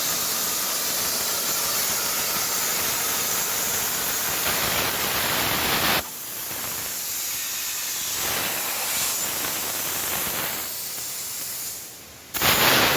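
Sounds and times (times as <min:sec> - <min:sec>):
plasma torch hissing: 0:00.0 - 0:12.9.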